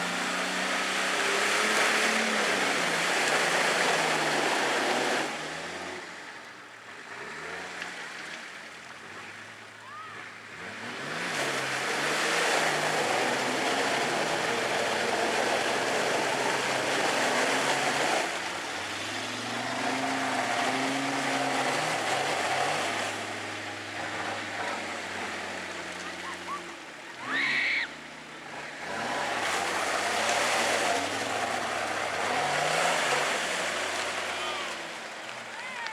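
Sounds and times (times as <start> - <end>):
engine driving at low speed: 0.0 - 35.9.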